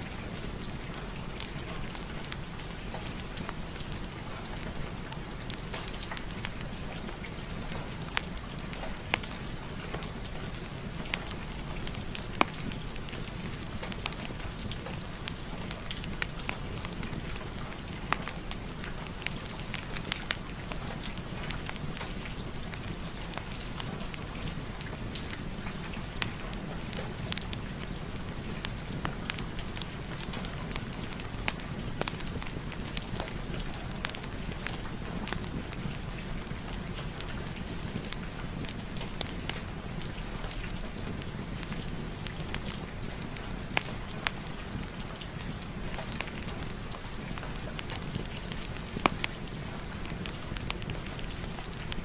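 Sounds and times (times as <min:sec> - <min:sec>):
steady rain: 0:00.0 - 0:52.0
wood fire crackling: 0:00.0 - 0:52.0.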